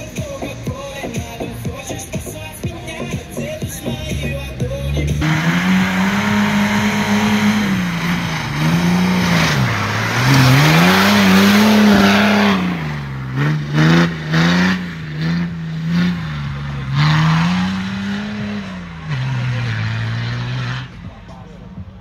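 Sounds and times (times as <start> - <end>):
off-road vehicle engine revving: 0.0 - 22.0
tyres churning mud: 3.4 - 22.0.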